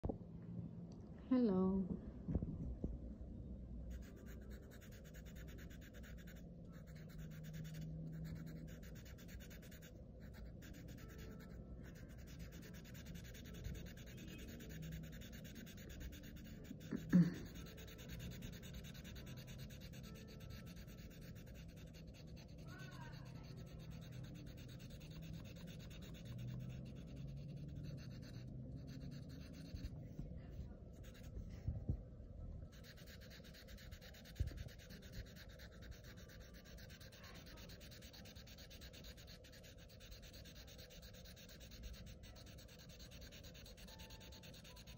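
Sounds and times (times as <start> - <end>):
marker scratching on paper: 3.9 - 31.7, 32.6 - 44.9.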